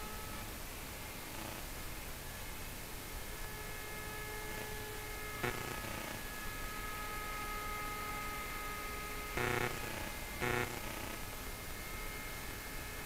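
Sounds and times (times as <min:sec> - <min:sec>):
rc helicopter motor whine: 0:00.0 - 0:01.7, 0:03.2 - 0:13.0.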